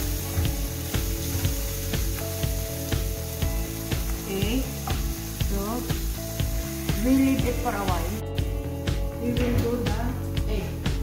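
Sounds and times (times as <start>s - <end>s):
background music with a beat: 0.0s - 11.0s
food sizzling in a frying pan: 0.0s - 11.0s.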